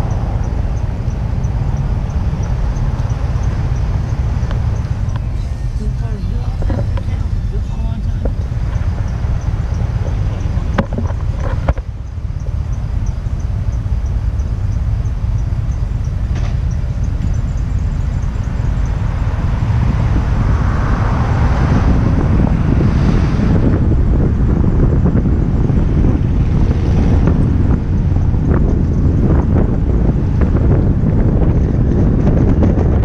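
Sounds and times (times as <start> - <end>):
car road noise rumble: 0.0 - 33.0
wind buffeting microphone: 0.0 - 33.0.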